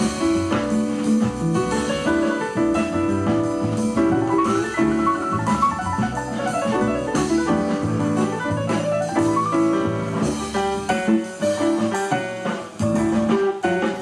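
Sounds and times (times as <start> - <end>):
instrumental music with piano and drums: 0.0 - 14.0.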